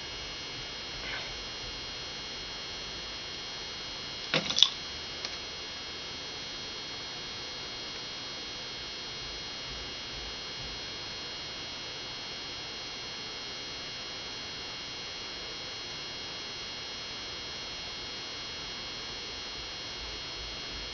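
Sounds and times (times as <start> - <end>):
electrical hum with high whine: 0.0 - 20.9.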